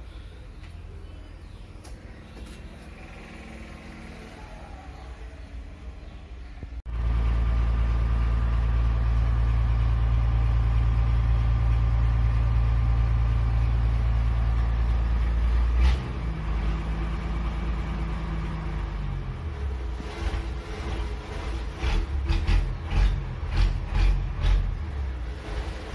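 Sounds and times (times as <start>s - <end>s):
bus diesel engine running: 0.0s - 25.9s.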